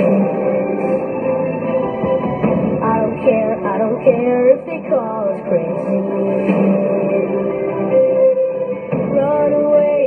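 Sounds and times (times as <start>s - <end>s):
instrumental pop ballad: 0.0s - 10.0s.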